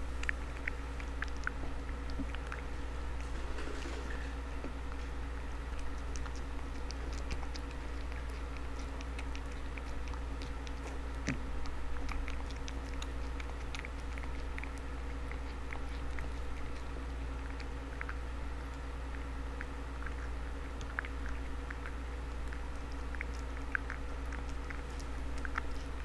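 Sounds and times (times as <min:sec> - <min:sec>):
cat chewing and licking: 0:00.0 - 0:26.0
steady low hum: 0:00.0 - 0:26.0.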